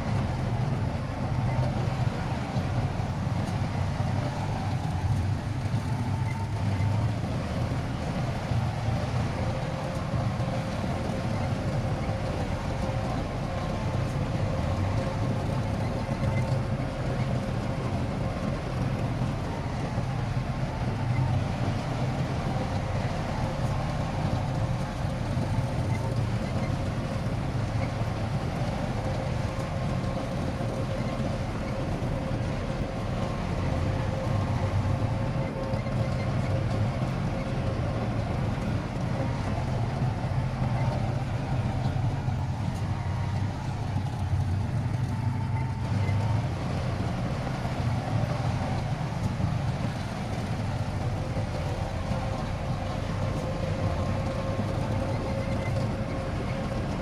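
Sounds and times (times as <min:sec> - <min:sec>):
faint steady whine: 0:00.0 - 0:57.0
heavy diesel engine running: 0:00.0 - 0:57.0.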